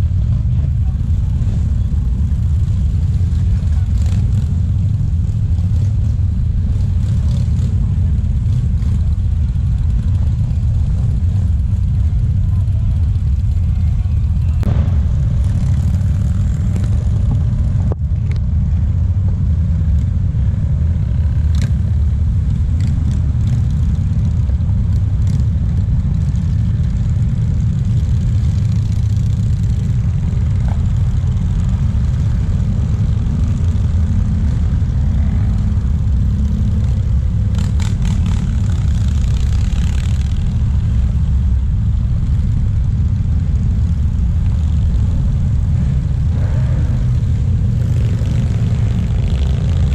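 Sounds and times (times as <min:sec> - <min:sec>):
motorcycles rumbling past: 0:00.0 - 0:18.0, 0:18.7 - 0:49.9
car and truck traffic: 0:00.0 - 0:49.9.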